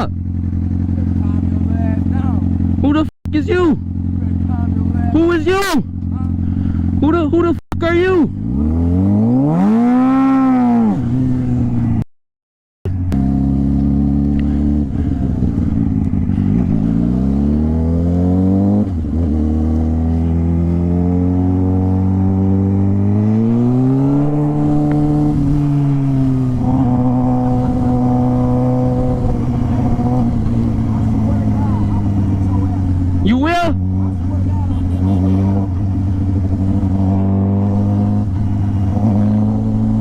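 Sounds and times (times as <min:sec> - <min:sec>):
motorcycle engine accelerating: 0:00.0 - 0:12.1, 0:12.9 - 0:40.0.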